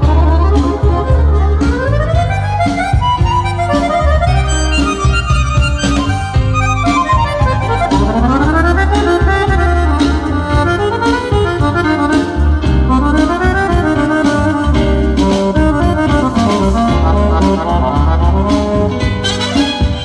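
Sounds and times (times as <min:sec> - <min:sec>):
accordion lead line: 0:00.0 - 0:20.0
bass: 0:00.0 - 0:20.0
drums: 0:00.0 - 0:20.0.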